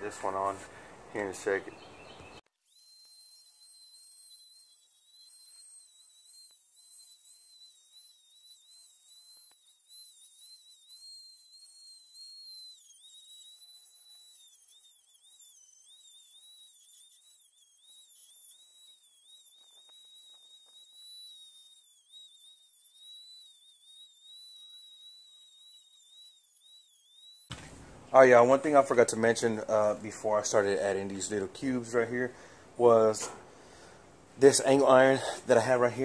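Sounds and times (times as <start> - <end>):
rotary tool whine: 0.0 - 36.0.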